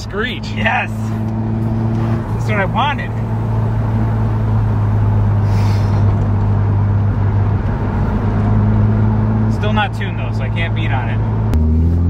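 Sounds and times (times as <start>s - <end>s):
rotary engine droning in cabin: 0.0s - 12.0s.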